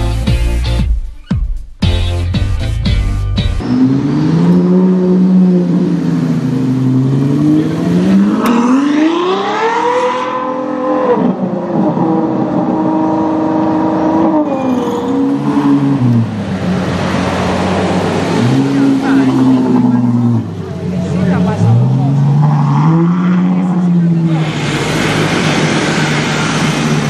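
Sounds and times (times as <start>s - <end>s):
car engine accelerating hard: 3.6s - 27.0s.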